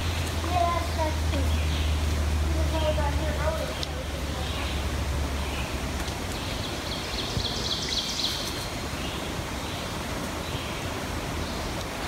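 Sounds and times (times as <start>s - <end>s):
leaves rustling: 0.0s - 12.0s.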